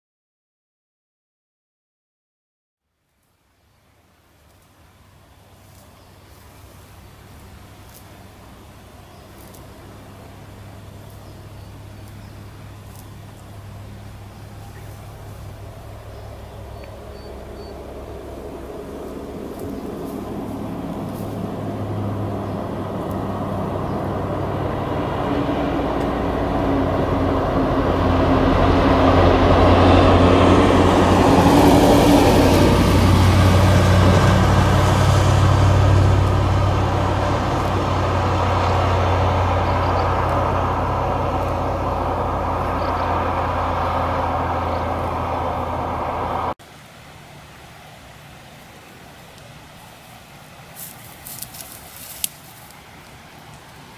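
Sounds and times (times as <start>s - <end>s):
vehicle engine humming: 3.0s - 53.9s.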